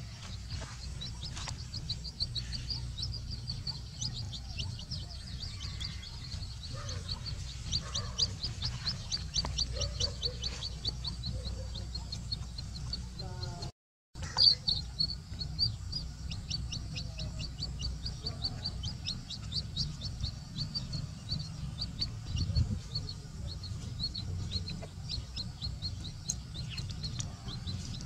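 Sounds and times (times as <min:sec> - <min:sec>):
chick peeping: 0:00.0 - 0:28.0
steady low rumble: 0:00.0 - 0:28.0.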